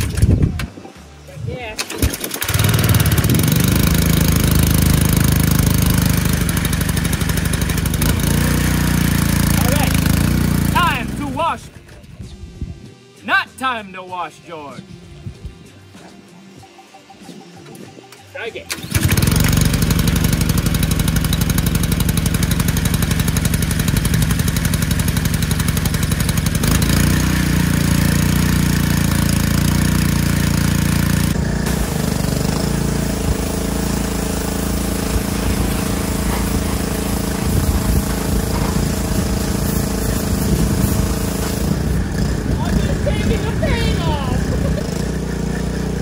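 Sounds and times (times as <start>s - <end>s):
pressure washer engine running: 1.7s - 11.6s, 18.6s - 46.0s.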